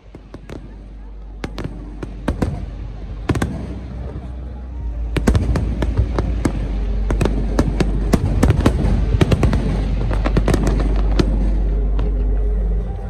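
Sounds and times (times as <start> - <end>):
fireworks bangs: 0.0 - 12.5
low rumble: 0.0 - 13.0.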